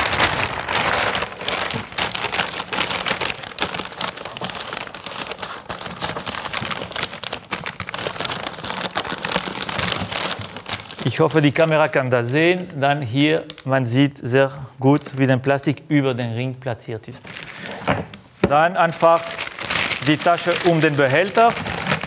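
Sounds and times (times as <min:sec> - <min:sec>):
plastic sack crinkling: 0:00.0 - 0:14.3, 0:17.2 - 0:22.0.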